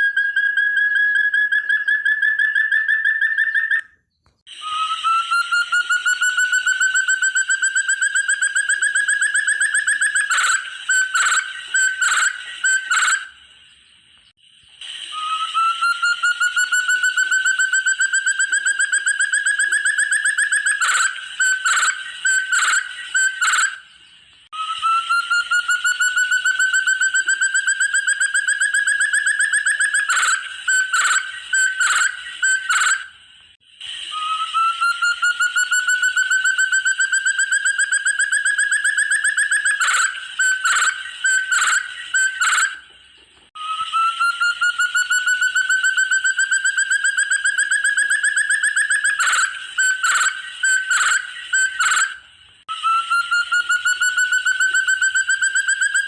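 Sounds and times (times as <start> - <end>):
partridge trilling: 0.0 - 56.0
partridge loud calls: 4.5 - 56.0.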